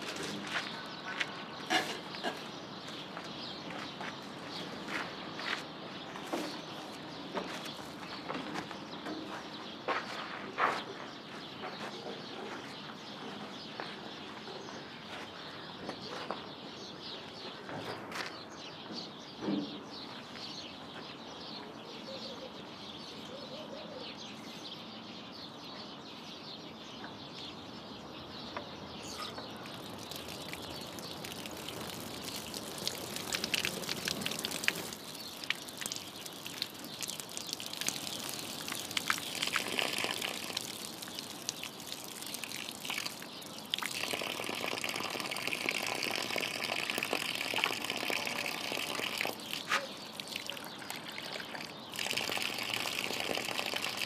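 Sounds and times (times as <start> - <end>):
outdoor ambience: 0.0 - 54.0
small birds chirping: 0.0 - 54.0.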